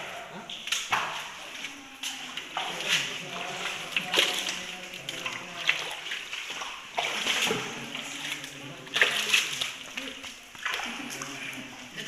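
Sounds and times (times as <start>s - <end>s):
splashing steps in water: 0.5s - 12.0s.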